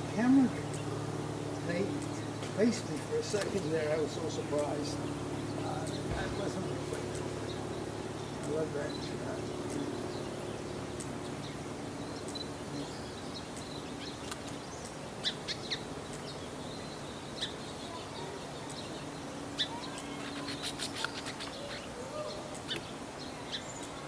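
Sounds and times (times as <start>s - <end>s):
faint steady low hum: 0.0s - 24.0s
small birds chirping: 0.0s - 24.0s.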